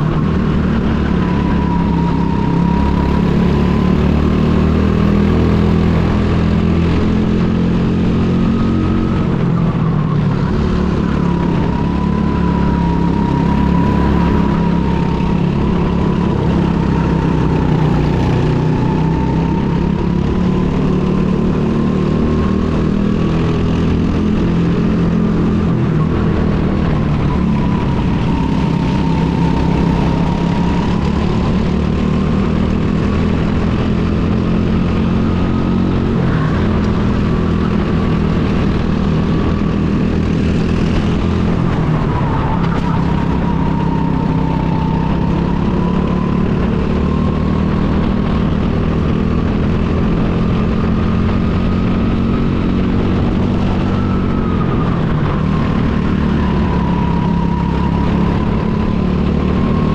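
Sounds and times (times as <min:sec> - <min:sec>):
go-kart engine racing: 0:00.0 - 0:59.9.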